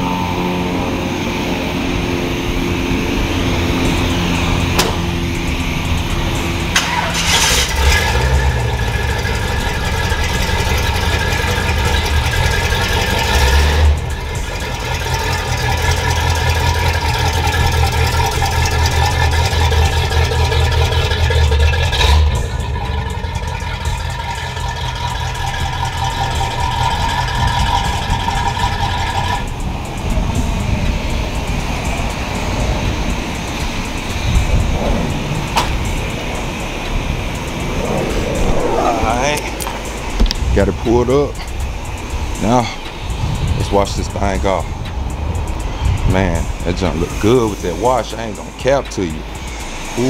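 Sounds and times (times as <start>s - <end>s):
car engine rumbling: 0.0s - 50.0s
steady whine: 0.0s - 50.0s.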